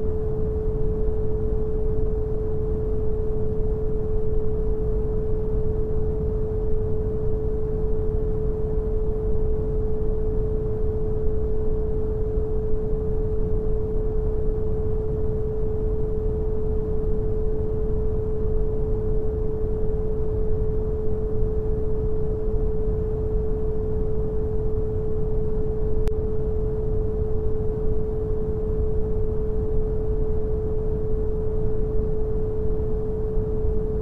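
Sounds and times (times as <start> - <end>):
pure steady tone: 0.0 - 34.0.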